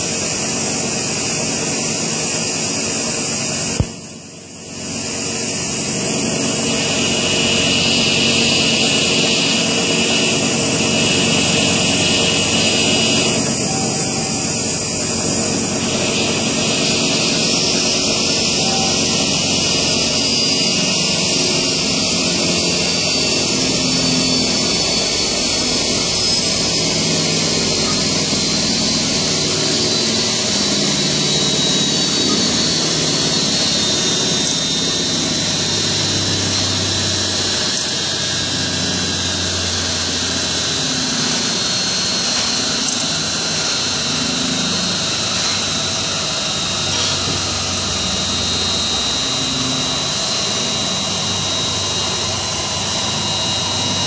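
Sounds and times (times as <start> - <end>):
bead mill machine whine: 0.0 - 54.0.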